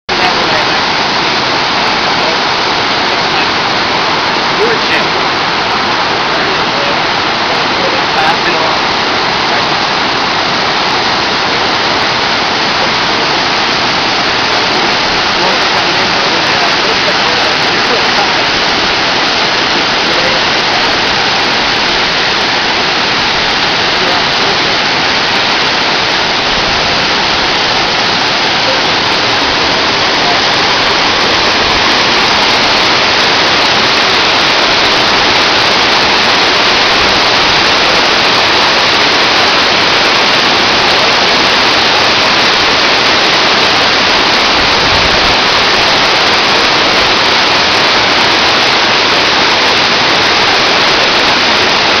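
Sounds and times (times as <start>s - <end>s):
water rushing over boulders: 0.0s - 52.0s.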